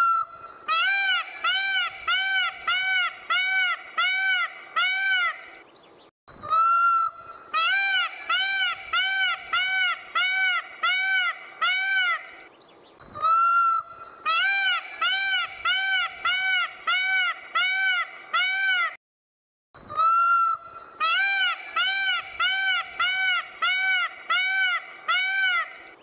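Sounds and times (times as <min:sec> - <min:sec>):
peacock calling: 0:00.0 - 0:05.6, 0:06.4 - 0:19.0, 0:19.8 - 0:26.0.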